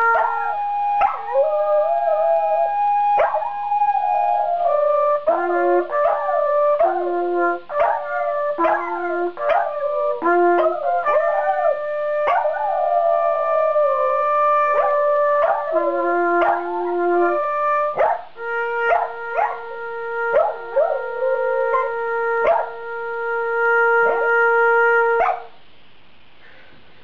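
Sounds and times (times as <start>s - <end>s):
dog howling: 0.0s - 22.8s
instrument playing long notes: 0.0s - 25.3s.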